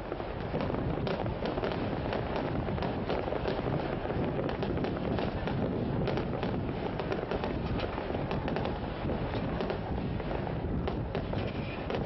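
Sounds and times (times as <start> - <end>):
distant fireworks crackling: 0.0 - 12.0.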